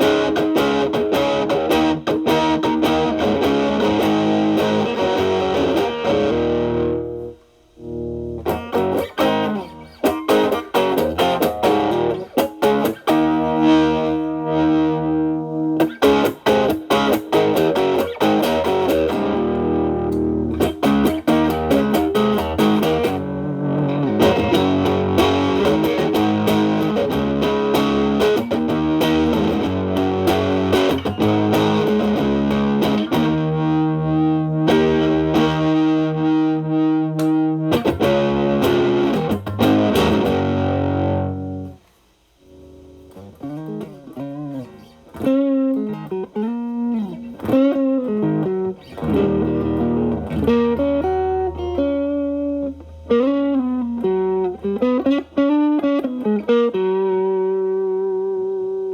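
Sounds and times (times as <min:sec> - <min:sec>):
overdriven electric guitar: 0:00.0 - 0:58.9.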